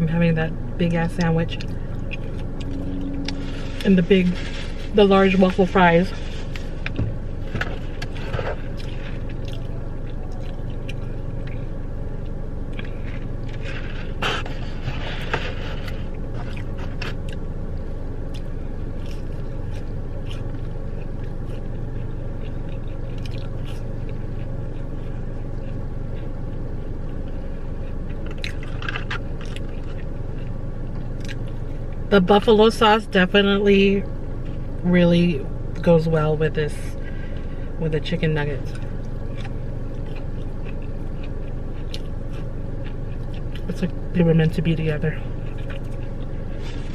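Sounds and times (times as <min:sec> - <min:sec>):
chewing and crunching food: 0:00.0 - 0:33.4, 0:36.7 - 0:46.9
car cabin hum: 0:00.0 - 0:46.9.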